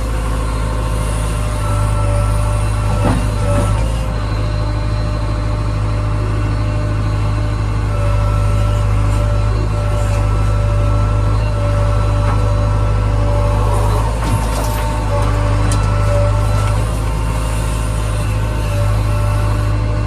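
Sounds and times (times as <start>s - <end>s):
heavy diesel engine droning: 0.0s - 20.0s.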